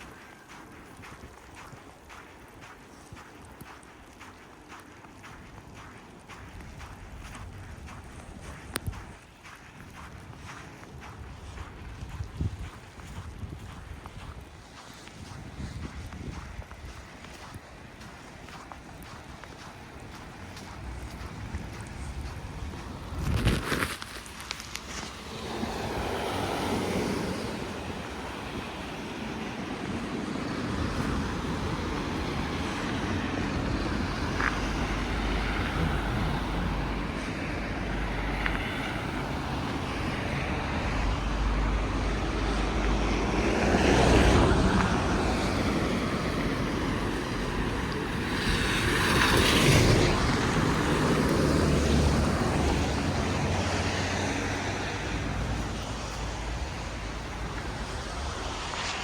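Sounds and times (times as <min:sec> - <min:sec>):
vehicles passing on snowy street: 0:00.0 - 0:59.0.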